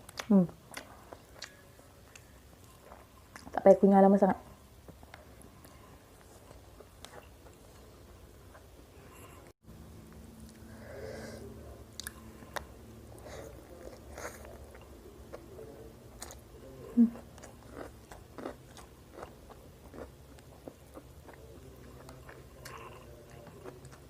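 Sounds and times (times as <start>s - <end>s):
person chewing food: 0.0s - 3.5s, 4.8s - 9.5s, 11.9s - 24.0s.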